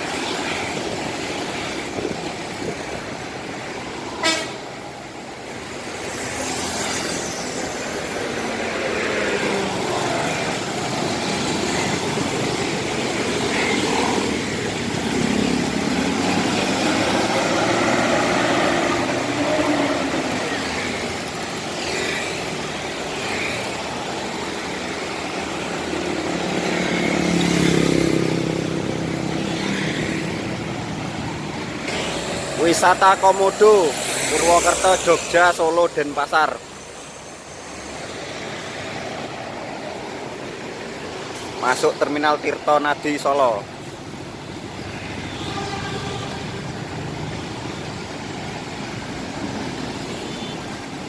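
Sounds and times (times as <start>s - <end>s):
bus engine passing by: 0.0s - 42.7s, 43.4s - 51.0s.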